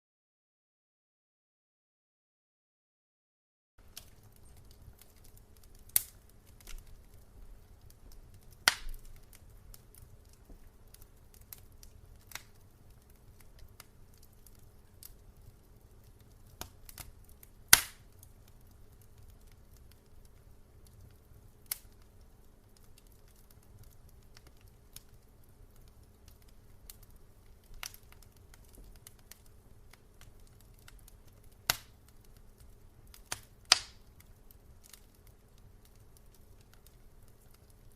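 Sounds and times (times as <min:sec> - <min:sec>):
faint low hum: 0:03.8 - 0:37.9
wood fire crackling: 0:03.8 - 0:37.9.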